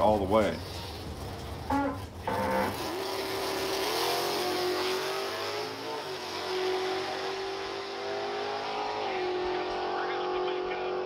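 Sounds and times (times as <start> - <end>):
drag car accelerating: 0.0 - 11.0.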